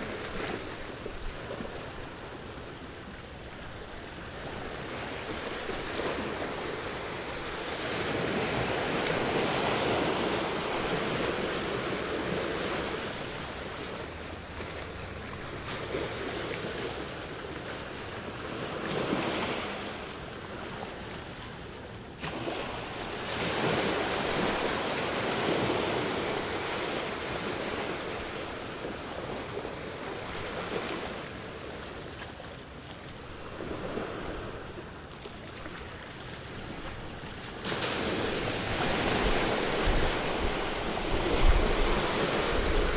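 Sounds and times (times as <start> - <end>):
ocean waves breaking: 0.0 - 42.9.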